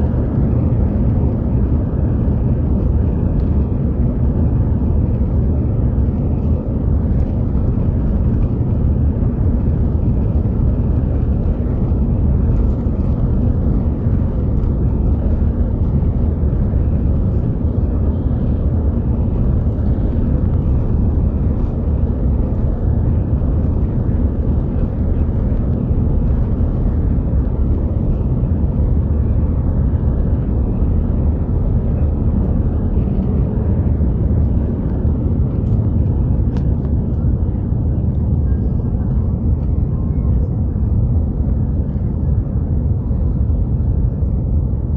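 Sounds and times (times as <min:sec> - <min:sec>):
jet engines at takeoff thrust: 0:00.0 - 0:44.9
wheels rumbling on runway: 0:00.0 - 0:44.9.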